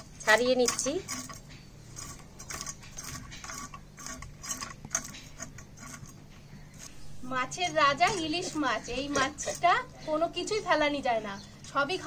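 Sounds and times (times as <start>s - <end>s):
blade scraping fish scales: 0.0s - 9.7s.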